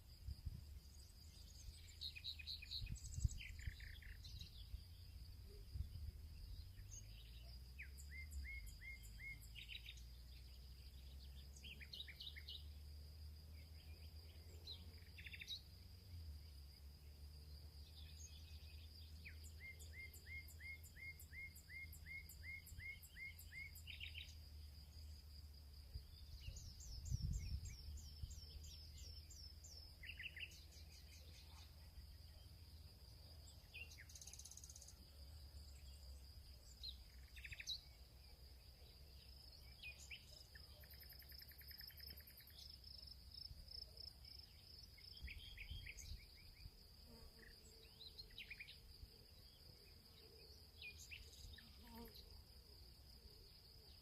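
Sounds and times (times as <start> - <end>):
insect trill: 0.0 - 54.0.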